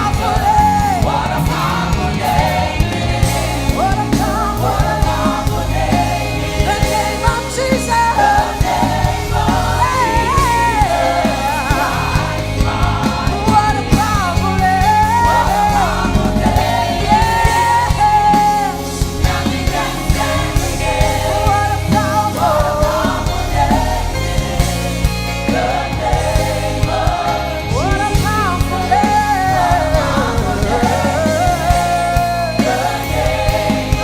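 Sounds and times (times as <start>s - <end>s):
bass and drum hits: 0.0s - 34.0s
worship band playing: 0.0s - 34.0s.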